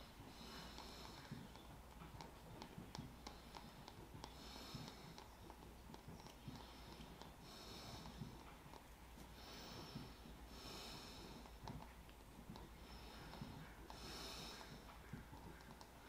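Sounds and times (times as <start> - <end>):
faint breathing through nose: 0.0 - 16.0.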